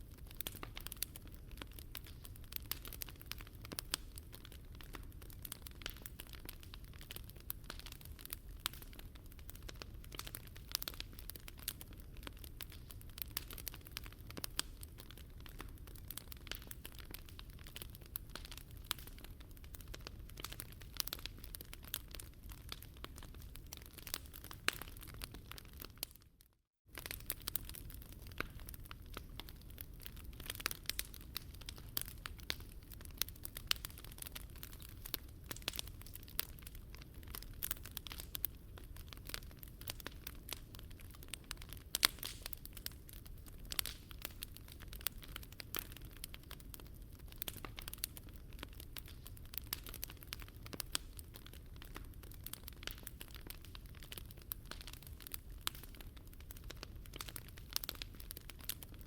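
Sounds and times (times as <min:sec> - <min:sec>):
low rumble of fire: 0:00.0 - 0:26.2, 0:26.8 - 0:59.0
wood fire crackling and popping: 0:00.0 - 0:59.0.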